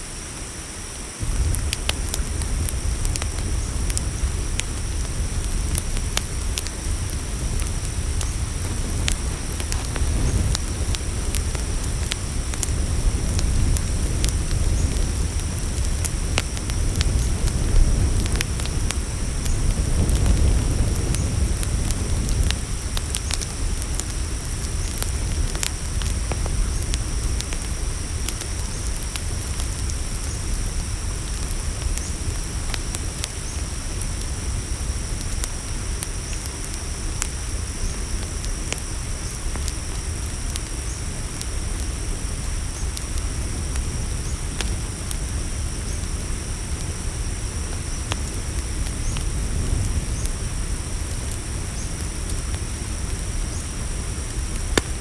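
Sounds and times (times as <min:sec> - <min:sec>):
crickets chirping: 0:00.0 - 0:55.0
campfire crackling and popping: 0:00.1 - 0:55.0.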